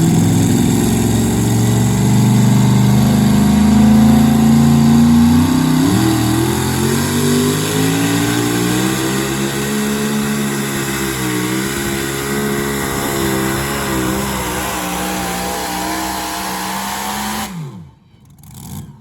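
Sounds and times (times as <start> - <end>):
truck engine running loud: 0.0 - 17.9.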